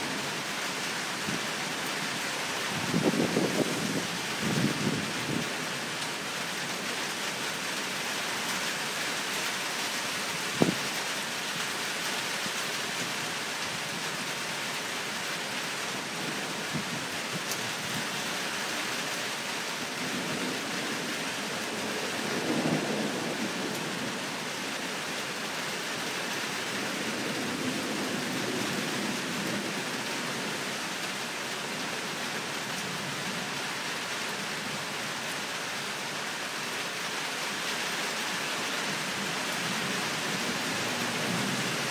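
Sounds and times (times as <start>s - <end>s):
heavy rain hissing: 0.0s - 41.9s.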